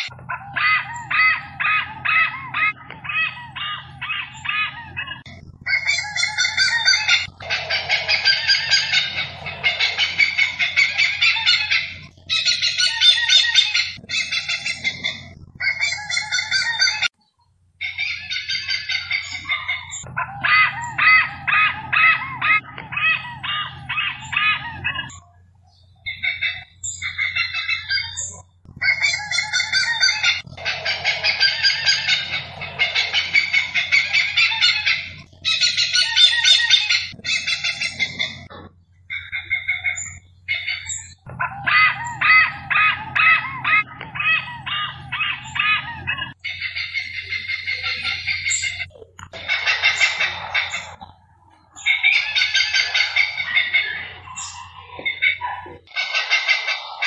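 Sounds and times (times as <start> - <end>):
hornbill calls: 0.0 - 17.2, 17.8 - 25.3, 26.1 - 57.0.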